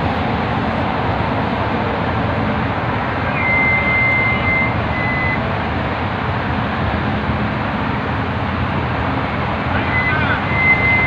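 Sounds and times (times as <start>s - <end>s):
highway traffic rushing: 0.0s - 11.0s.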